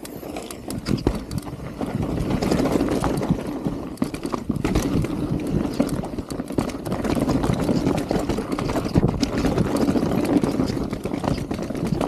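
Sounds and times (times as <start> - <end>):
bike knocking and rattling: 0.0 - 12.0
bike tyres rolling over stones: 0.0 - 12.0.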